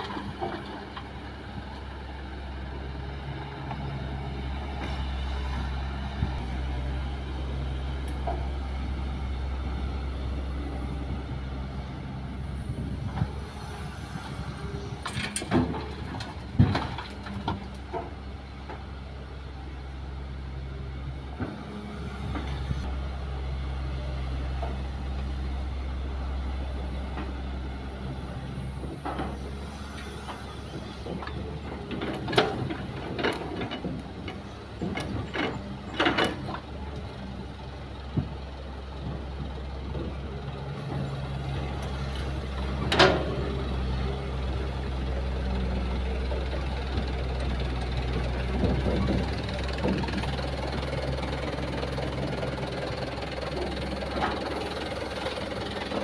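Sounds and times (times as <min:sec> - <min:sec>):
dump truck engine running: 0:00.0 - 0:56.0
excavator diesel engine running: 0:00.0 - 0:56.0.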